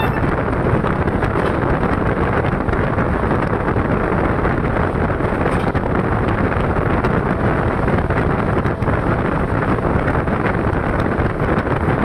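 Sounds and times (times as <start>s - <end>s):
train running at speed: 0.0s - 12.0s.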